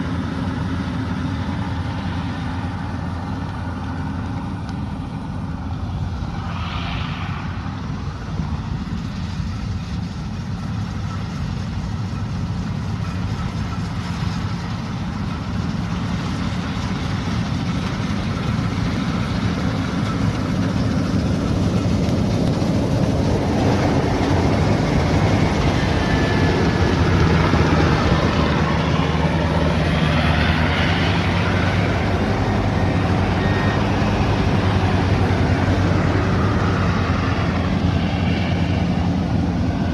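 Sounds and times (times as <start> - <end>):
farm machine engine running: 0.0 - 6.4, 7.7 - 39.9.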